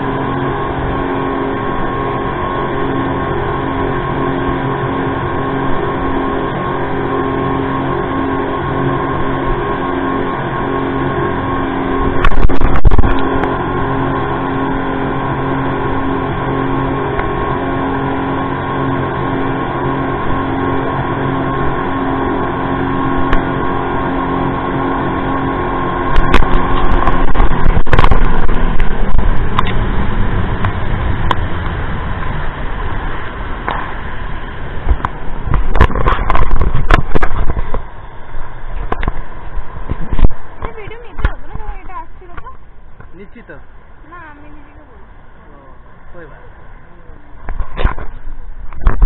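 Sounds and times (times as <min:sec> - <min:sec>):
speedboat engine hum: 0:00.0 - 0:49.0
water rushing along hull: 0:00.0 - 0:49.0
wind on microphone: 0:00.0 - 0:49.0.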